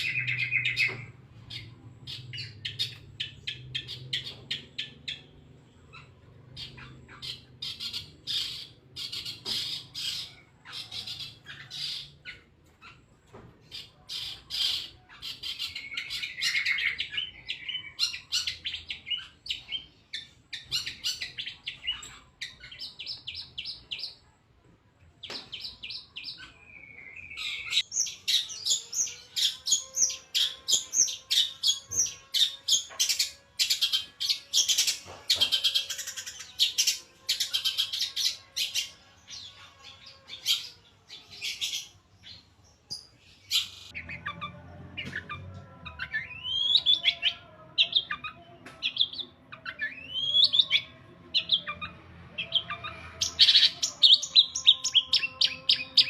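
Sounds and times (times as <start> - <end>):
bird singing chirps: 0.0 - 24.4, 25.2 - 56.0.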